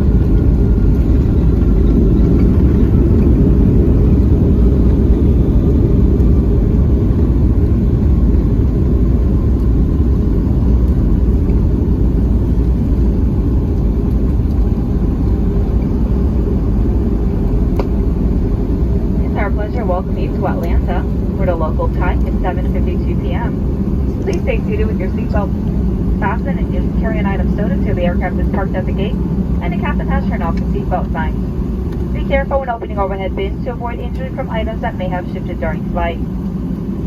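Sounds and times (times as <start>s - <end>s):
airplane cabin rumble: 0.0s - 37.0s.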